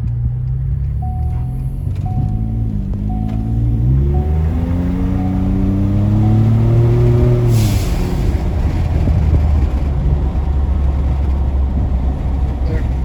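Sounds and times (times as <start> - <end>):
truck engine accelerating: 0.1 - 13.0.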